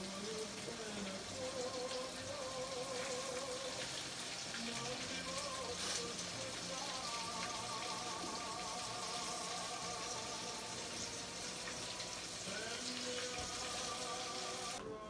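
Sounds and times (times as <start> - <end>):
fish sizzling in hot pan: 0.0 - 14.8.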